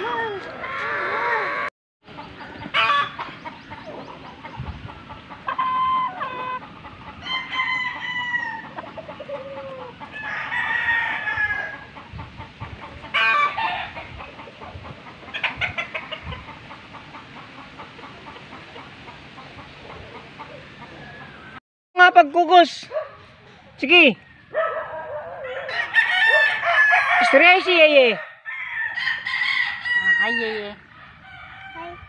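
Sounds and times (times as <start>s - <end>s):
roosters crowing and clucking: 0.0s - 21.6s, 22.8s - 32.0s.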